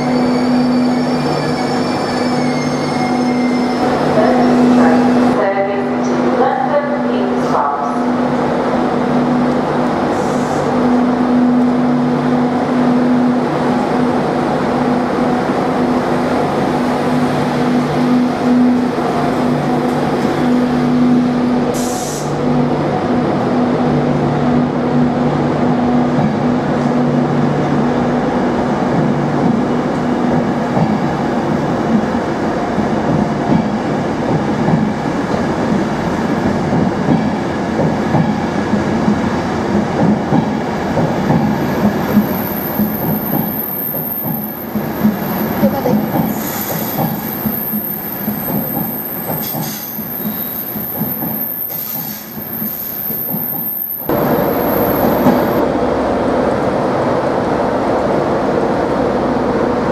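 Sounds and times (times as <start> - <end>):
electric locomotive hum: 0.0 - 59.9
train wheels rumbling on rails: 0.0 - 59.9.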